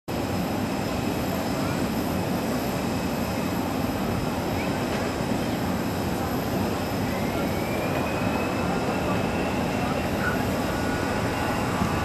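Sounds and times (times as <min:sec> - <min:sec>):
jet engine low rumble: 0:00.1 - 0:12.0.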